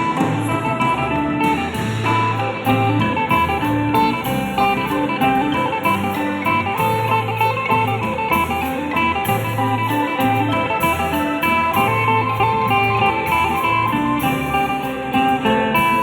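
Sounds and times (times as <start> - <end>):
plucked-string melody: 0.0 - 16.0
repeating bass line: 0.0 - 16.0.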